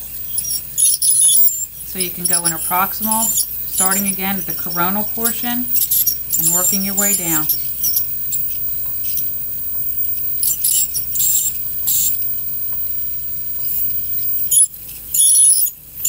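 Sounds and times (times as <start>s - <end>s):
ultrasonic scaler squeal: 0.0s - 16.0s.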